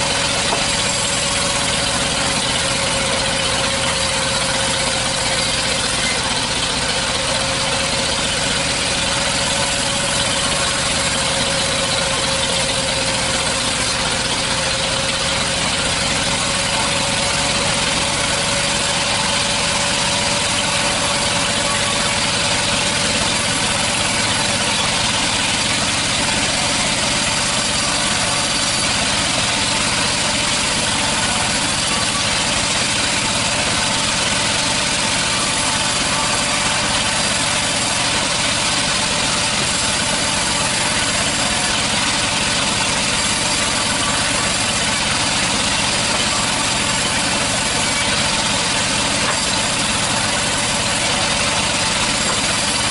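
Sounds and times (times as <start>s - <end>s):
high steady machine whine: 0.0s - 52.9s
sawmill machinery drone: 0.0s - 52.9s.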